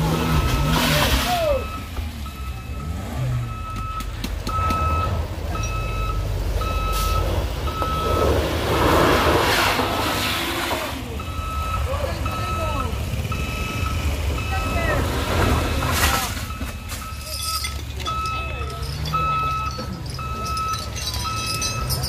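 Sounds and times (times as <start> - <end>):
reversing alarm beeping: 0.0 - 8.4, 11.1 - 22.0
low rumble of engines: 0.0 - 22.0.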